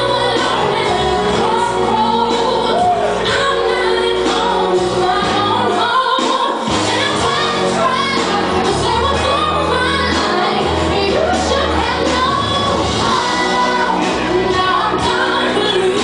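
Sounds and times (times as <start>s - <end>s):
backing music with bass: 0.0s - 16.0s
person singing pop ballad: 0.0s - 16.0s.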